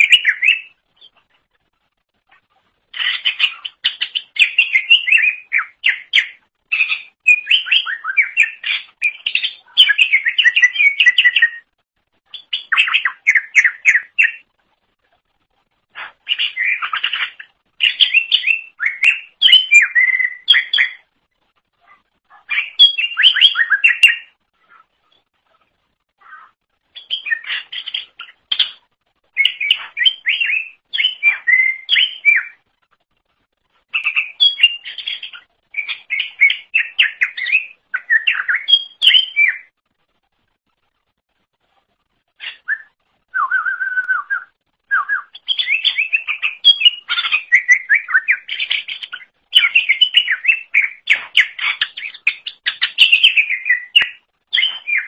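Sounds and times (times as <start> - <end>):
bird chirping and twittering: 0.0 - 32.8, 33.5 - 39.7, 42.2 - 55.0.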